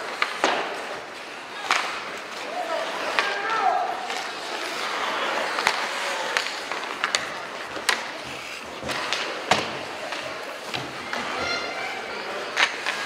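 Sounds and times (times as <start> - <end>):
hockey sticks clacking puck: 0.0 - 13.0
skate blades scraping ice: 0.0 - 13.0.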